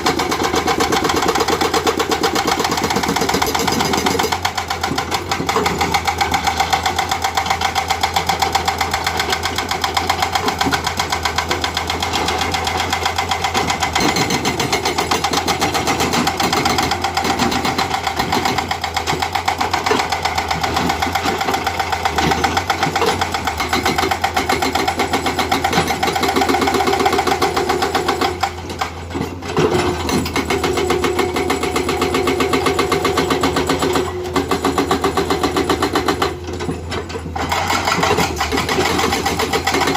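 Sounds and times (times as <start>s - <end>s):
hydraulic breaker hammering rock: 0.0s - 39.9s.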